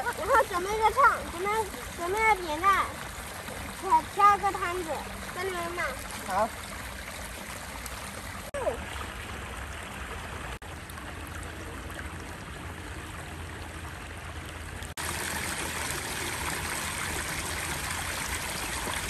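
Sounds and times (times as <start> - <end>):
water trickling over stone steps: 0.0 - 19.0.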